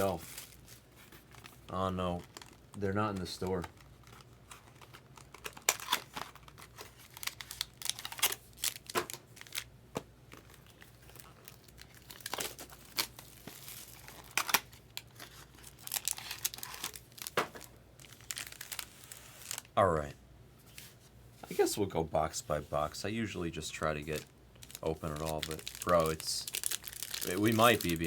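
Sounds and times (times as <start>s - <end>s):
plastic wrap crinkling and tearing: 0.0s - 9.7s, 10.3s - 19.8s, 23.7s - 28.0s.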